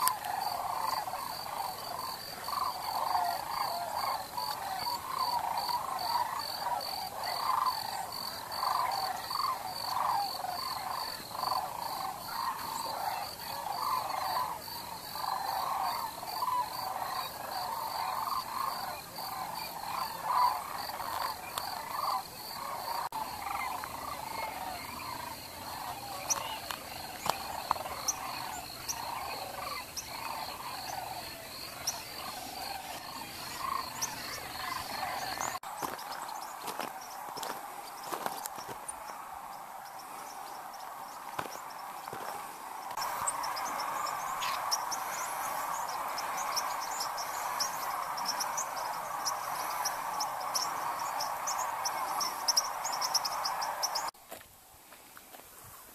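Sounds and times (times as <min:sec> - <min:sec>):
chorus of animals calling: 0:00.0 - 0:54.2.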